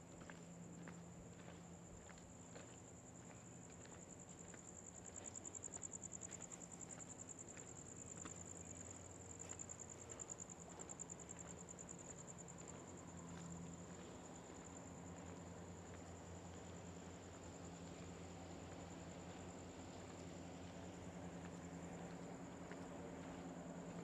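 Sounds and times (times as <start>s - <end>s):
crickets trilling: 0.1s - 24.0s
faint footsteps: 0.1s - 24.0s.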